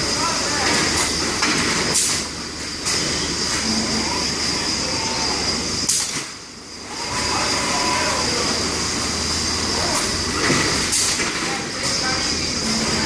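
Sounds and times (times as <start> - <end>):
thin high whine: 0.0 - 13.0.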